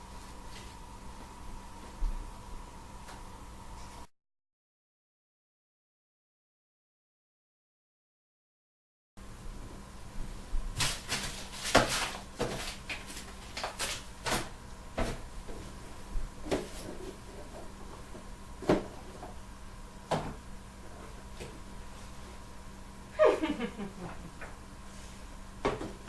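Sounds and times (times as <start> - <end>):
faint steady hum: 0.0 - 4.1, 9.2 - 26.0.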